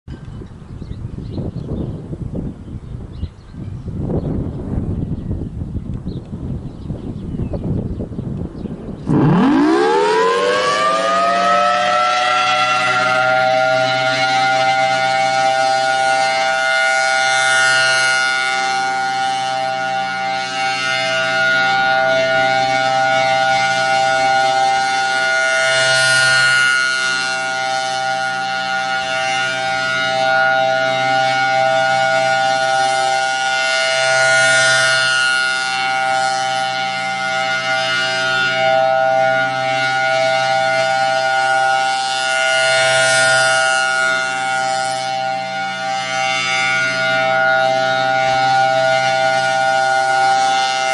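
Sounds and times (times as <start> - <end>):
rotating warning siren wailing: 4.0 - 50.9.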